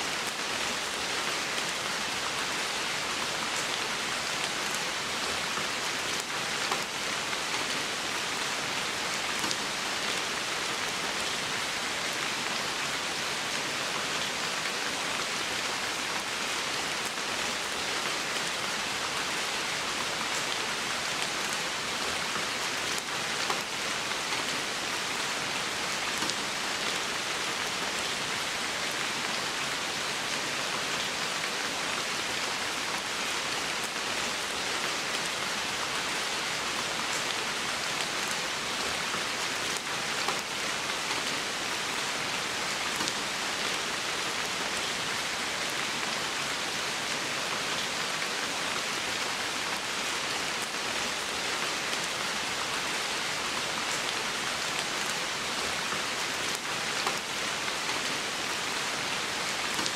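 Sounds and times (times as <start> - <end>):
steady rain on leaves: 0.0 - 59.9.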